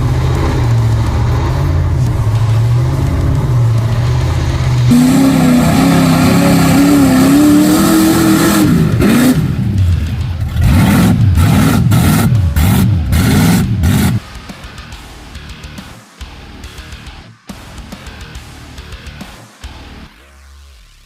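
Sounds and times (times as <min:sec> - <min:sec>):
truck engine revving: 0:00.0 - 0:19.9.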